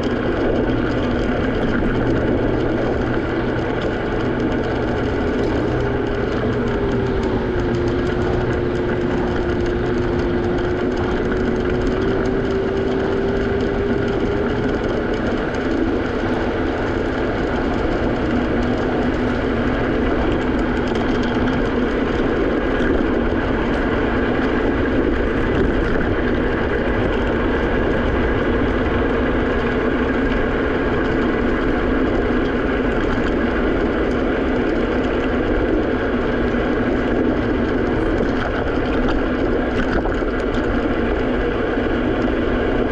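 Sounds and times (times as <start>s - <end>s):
road rumble: 0.0s - 42.9s
scooter motor whine: 0.0s - 42.9s
wind noise: 0.0s - 42.9s.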